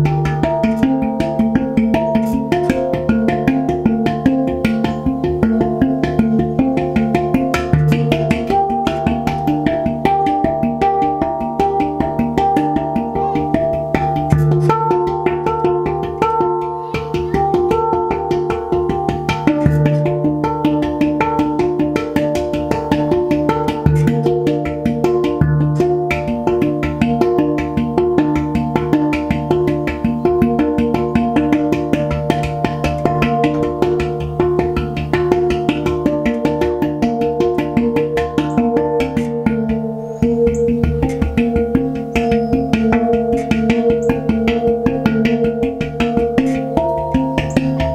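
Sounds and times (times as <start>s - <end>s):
handpan played by hand: 0.0s - 47.9s.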